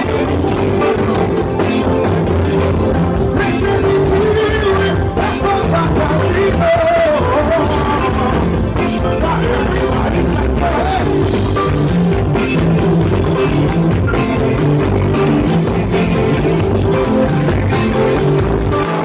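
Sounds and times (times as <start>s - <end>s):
live band playing worship music: 0.0s - 19.0s
repeating bass line: 0.0s - 19.0s.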